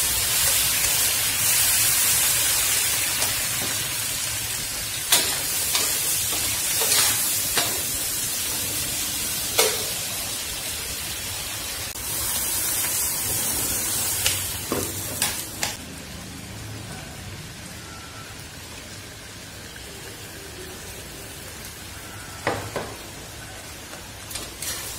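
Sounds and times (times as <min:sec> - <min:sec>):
food sizzling in oil: 0:00.0 - 0:16.2, 0:17.7 - 0:24.9.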